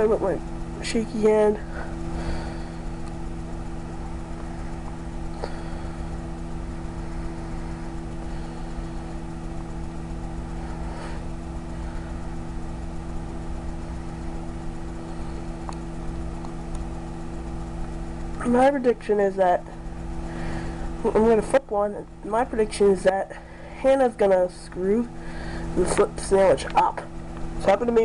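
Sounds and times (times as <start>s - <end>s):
microwave oven humming: 0.0s - 28.0s.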